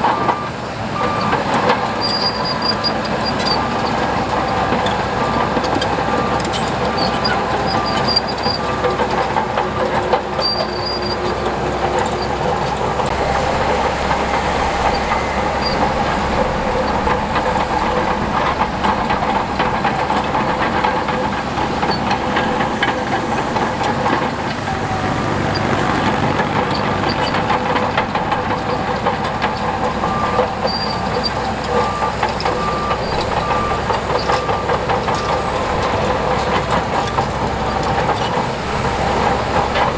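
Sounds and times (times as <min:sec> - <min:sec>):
bulldozer engine running: 0:00.0 - 0:39.9
steel tracks clanking: 0:00.0 - 0:39.9.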